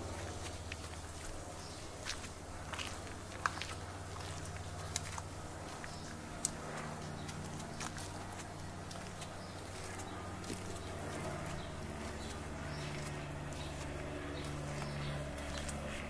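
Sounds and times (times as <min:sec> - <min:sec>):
footsteps crunching on track: 0:00.0 - 0:16.0
road traffic hum: 0:00.0 - 0:16.0
vehicle passing: 0:00.0 - 0:16.0.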